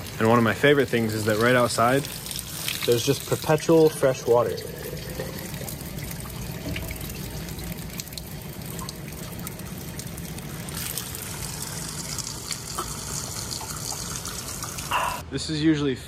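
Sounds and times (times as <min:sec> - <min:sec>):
water trickling into bottle: 0:00.0 - 0:15.2.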